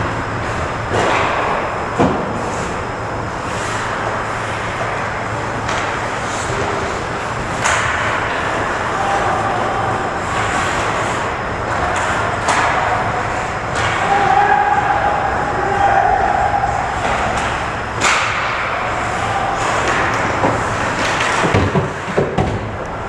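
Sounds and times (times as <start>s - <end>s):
hockey sticks and puck clacking: 0.4s - 2.8s, 3.5s - 22.9s.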